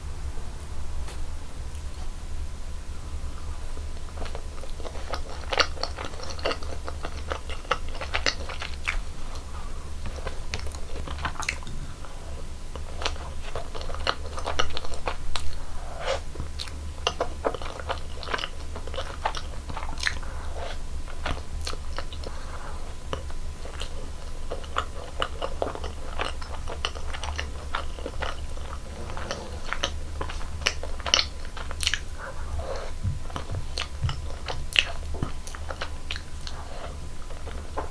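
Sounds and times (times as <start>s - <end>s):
wet chewing and biting: 4.0s - 11.8s, 12.7s - 37.9s.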